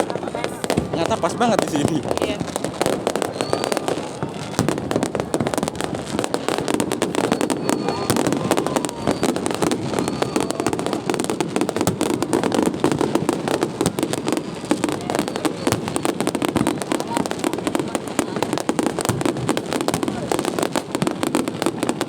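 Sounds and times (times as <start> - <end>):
fireworks barrage crackling: 0.0 - 22.0.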